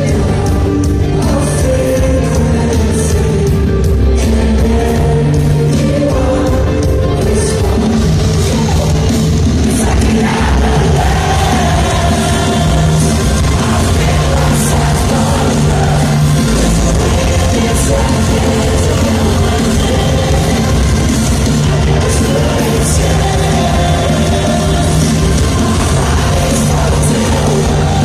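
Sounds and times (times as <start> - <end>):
drums: 0.0 - 28.0
heavy guitars: 0.0 - 28.0
sung vocals: 0.0 - 28.0.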